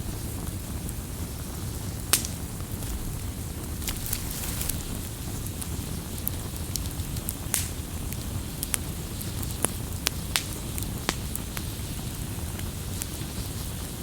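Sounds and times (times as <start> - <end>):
low rumble and hiss of fire: 0.0 - 14.0
campfire crackling and popping: 0.1 - 14.0.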